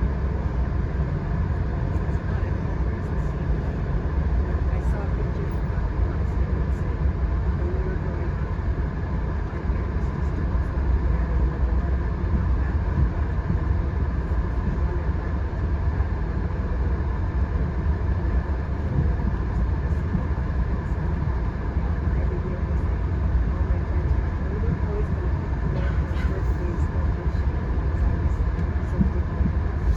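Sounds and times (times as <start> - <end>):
passenger train rumbling: 0.0 - 29.9.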